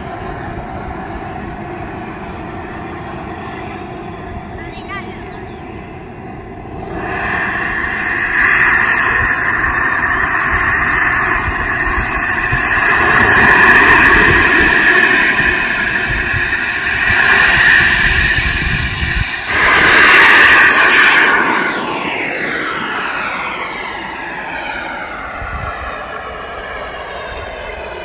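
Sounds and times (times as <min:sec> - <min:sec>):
model jet engine whine: 0:00.0 - 0:28.0.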